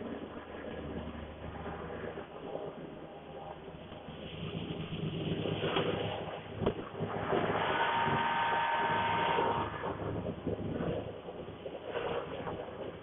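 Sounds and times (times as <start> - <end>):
machinery running: 0.0 - 12.3
steady whine: 0.0 - 13.0.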